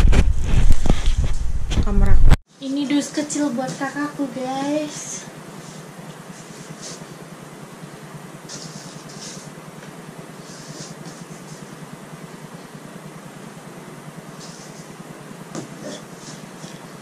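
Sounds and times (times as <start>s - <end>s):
low hum: 3.2s - 17.0s.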